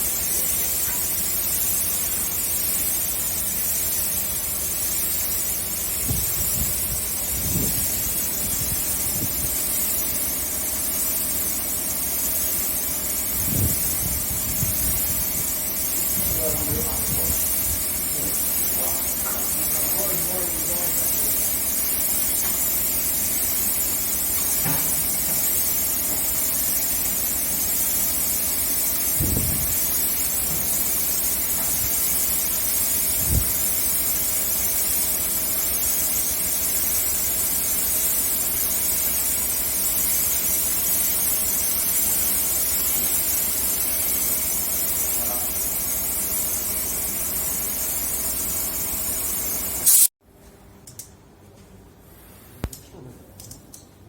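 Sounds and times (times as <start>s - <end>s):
steady loud hiss: 0.0s - 50.2s.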